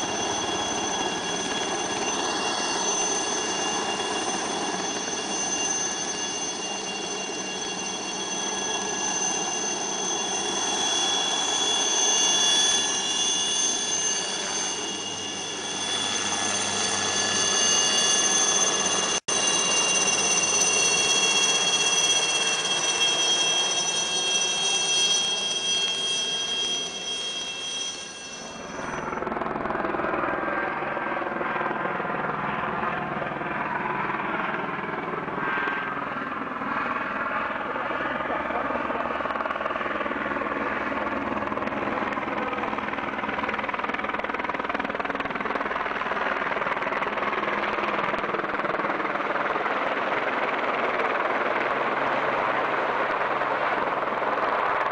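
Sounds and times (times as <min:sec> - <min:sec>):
helicopter rotor and engine: 0:00.0 - 0:54.9
helicopter turbine whine: 0:00.0 - 0:54.9.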